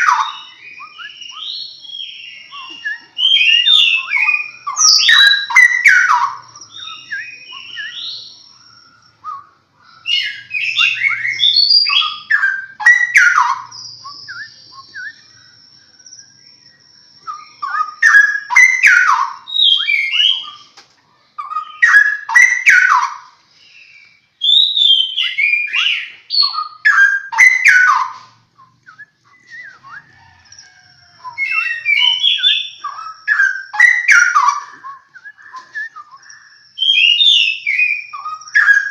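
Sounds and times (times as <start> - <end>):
bird fluty whistled song: 0.0 - 20.8, 21.4 - 38.9.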